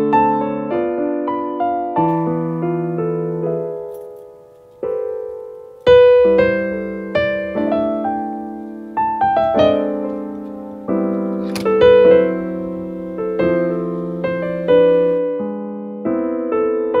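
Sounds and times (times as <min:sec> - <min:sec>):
piano chords and notes: 0:00.0 - 0:17.0.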